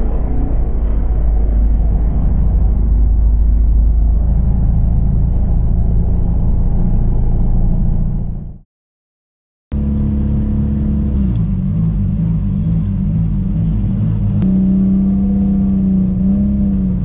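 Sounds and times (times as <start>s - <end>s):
race car engine rumbling: 0.0s - 8.6s, 9.7s - 17.0s.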